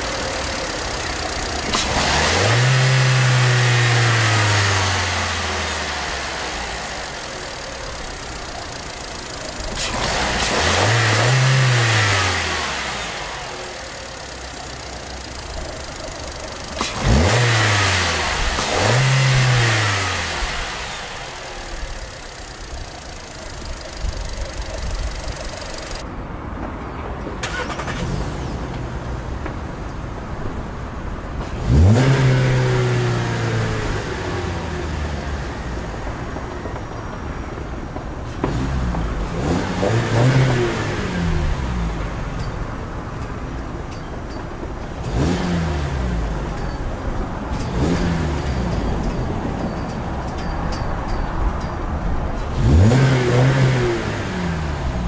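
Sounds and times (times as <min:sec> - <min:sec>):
car engine idling and revving: 0:00.0 - 0:26.2, 0:27.3 - 0:55.0.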